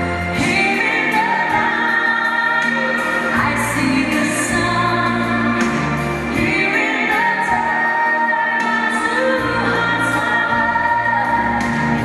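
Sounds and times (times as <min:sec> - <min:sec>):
person singing over a beat: 0:00.4 - 0:12.0.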